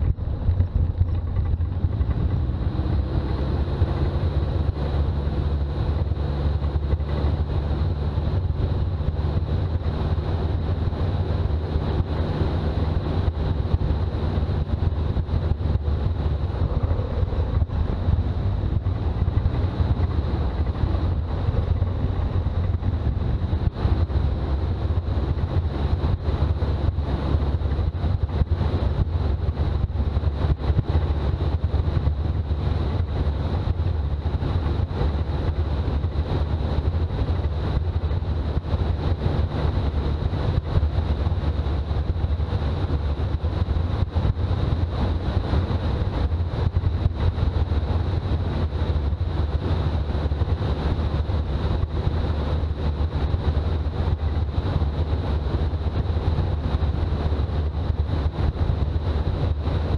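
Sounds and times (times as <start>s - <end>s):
engine and road noise drone: 0.0s - 59.9s
wind on microphone: 0.0s - 59.9s.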